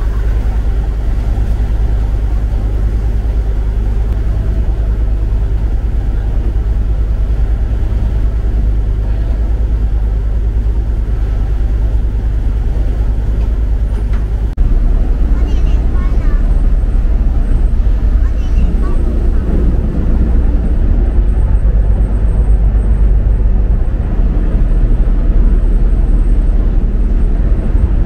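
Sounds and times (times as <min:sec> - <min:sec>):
ferry engine droning: 0:00.0 - 0:28.0.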